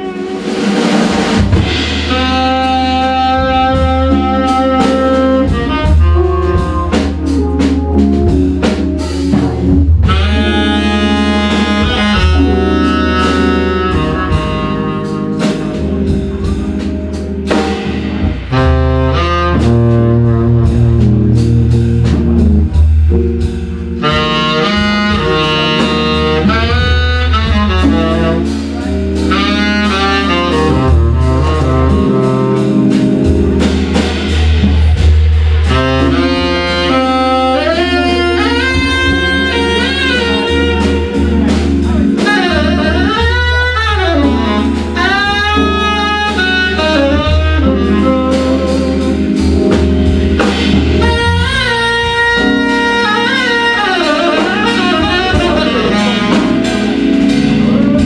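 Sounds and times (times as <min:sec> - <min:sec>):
drums: 0:00.0 - 0:58.0
organ chords and bass: 0:00.0 - 0:58.0
saxophone melody: 0:00.0 - 0:58.0.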